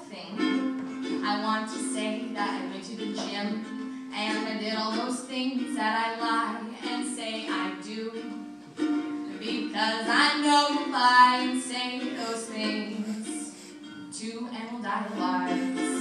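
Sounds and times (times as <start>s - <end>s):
woman singing: 0.0s - 0.6s, 1.2s - 8.5s, 9.3s - 16.0s
ukulele playing: 0.0s - 16.0s.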